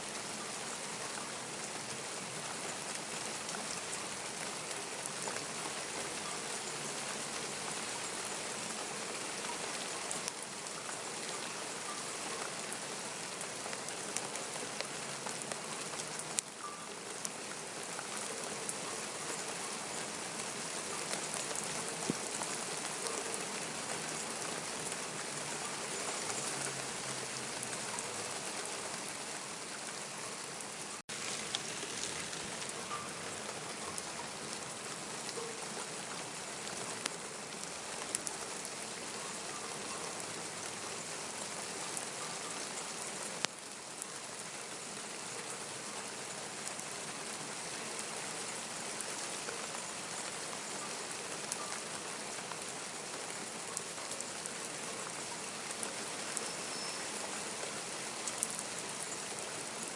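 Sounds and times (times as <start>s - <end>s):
raindrops ticking on surfaces: 0.0s - 59.9s
steady rain falling: 0.0s - 59.9s.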